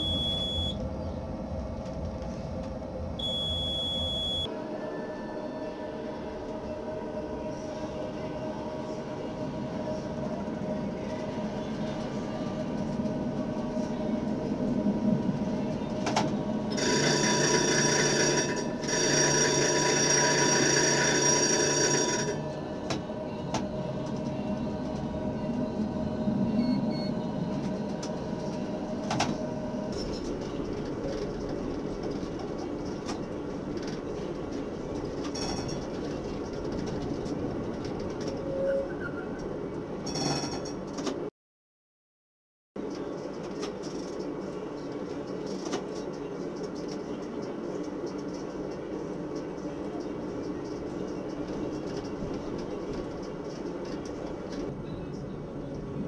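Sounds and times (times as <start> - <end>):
tram rumbling along track: 0.0 - 41.3, 42.8 - 56.0.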